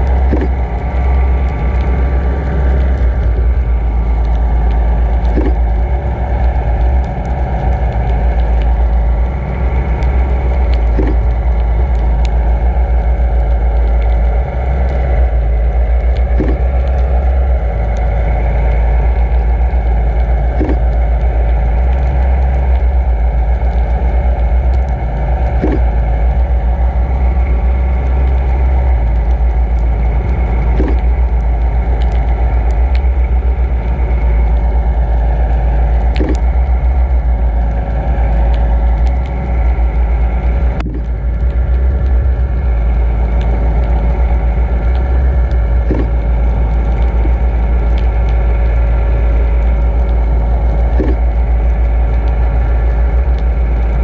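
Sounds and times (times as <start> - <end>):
boat motor drone: 0.0 - 54.0
underwater rushing water rumble: 0.0 - 54.0.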